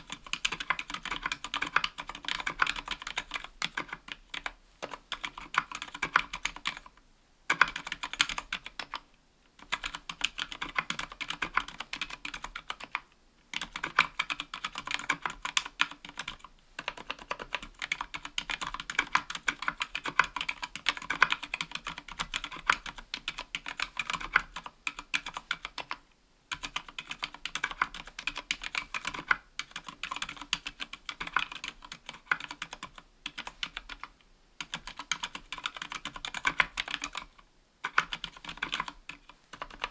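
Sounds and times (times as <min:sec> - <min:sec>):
soft mechanical keyboard typing: 0:00.0 - 0:39.9.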